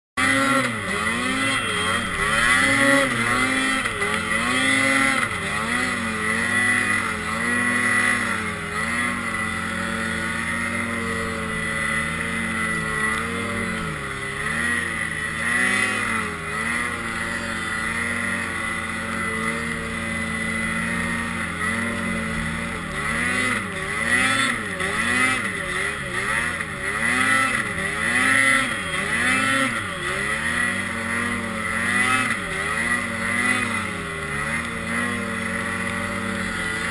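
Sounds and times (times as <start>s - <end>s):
snowmobile engine running hard: 0.2s - 36.9s.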